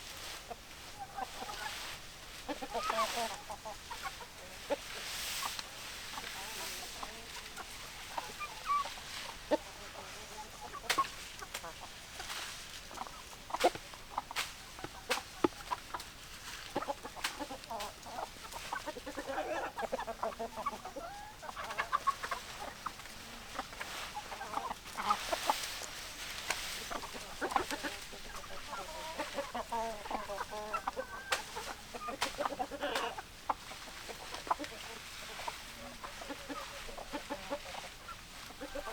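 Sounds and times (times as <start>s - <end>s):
hens clucking: 0.0s - 38.9s.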